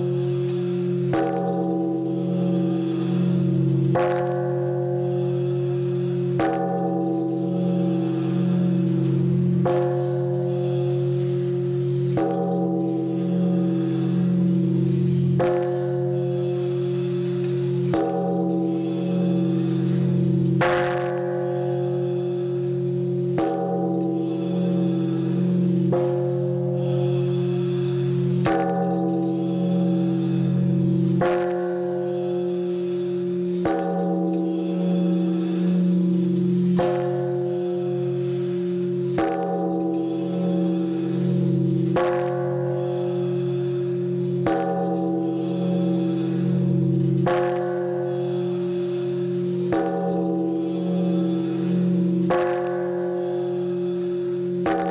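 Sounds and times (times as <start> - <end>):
large bell ringing deeply: 0.0 - 54.9.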